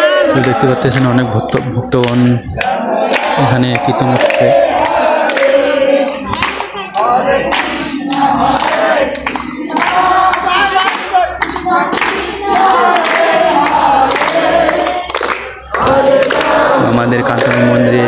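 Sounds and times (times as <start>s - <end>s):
group singing chanted phrases: 0.0s - 18.0s
hand claps: 0.1s - 18.0s.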